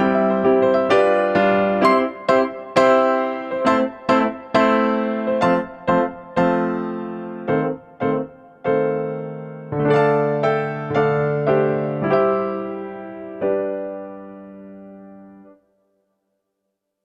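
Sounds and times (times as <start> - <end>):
electric piano melody: 0.0 - 15.6.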